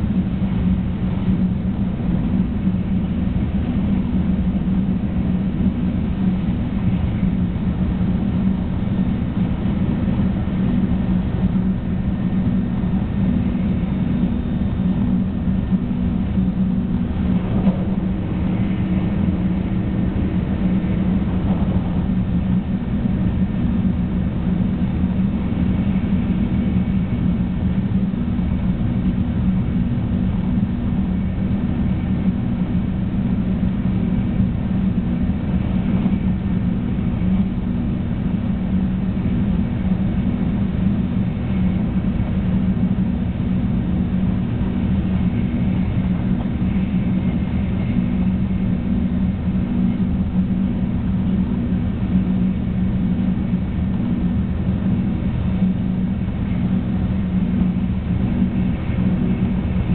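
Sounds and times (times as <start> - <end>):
low hum: 0.0 - 59.9
train cabin rumble: 0.0 - 59.9.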